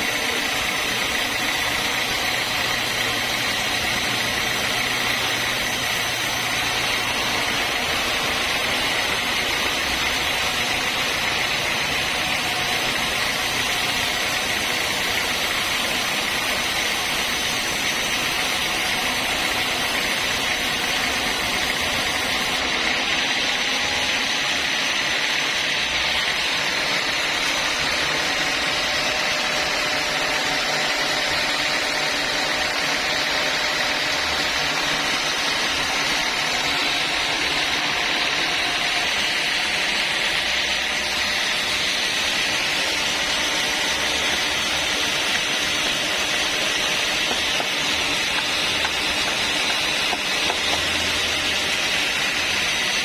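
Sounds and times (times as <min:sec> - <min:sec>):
sawmill saw whining: 0:00.0 - 0:53.0.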